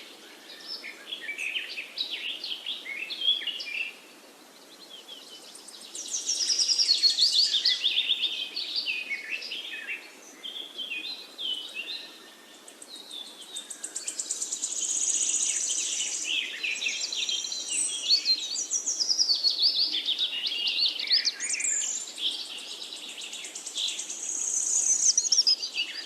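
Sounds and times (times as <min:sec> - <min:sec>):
songbirds singing and chirping: 0:00.0 - 0:26.0.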